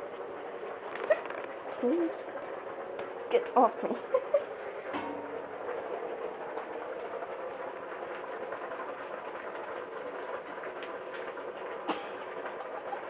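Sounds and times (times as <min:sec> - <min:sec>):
machine running with faint rattle: 0:00.0 - 0:13.0.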